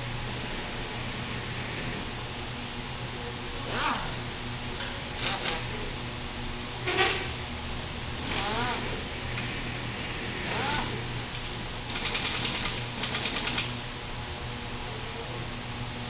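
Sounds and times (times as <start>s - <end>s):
low workshop hum: 0.0s - 16.0s.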